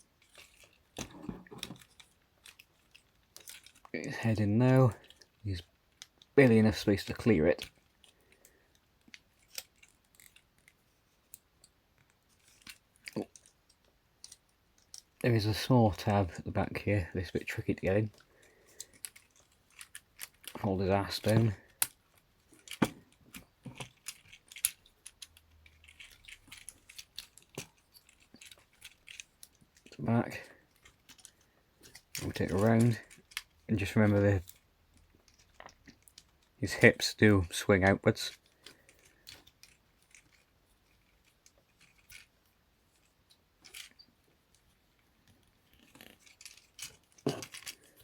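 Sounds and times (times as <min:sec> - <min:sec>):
plastic toy parts clicking: 0:00.1 - 0:04.0, 0:04.7 - 0:15.2, 0:17.2 - 0:48.0.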